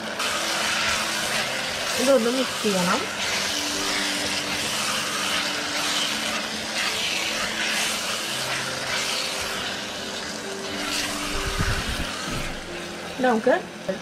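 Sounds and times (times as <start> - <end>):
wooden spatula scraping: 0.0 - 13.2
food sizzling in hot oil: 0.0 - 14.0.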